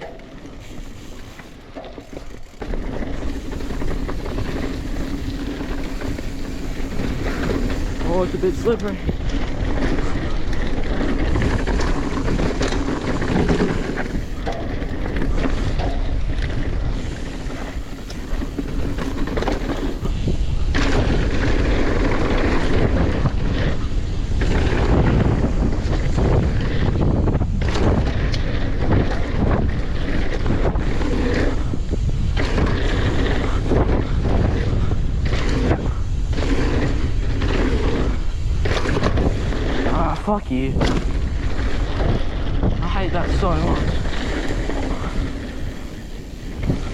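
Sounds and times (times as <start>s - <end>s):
bike knocks and rattles: 0.0s - 46.9s
bike tyre noise: 0.0s - 46.9s
wind buffeting microphone: 0.0s - 46.9s.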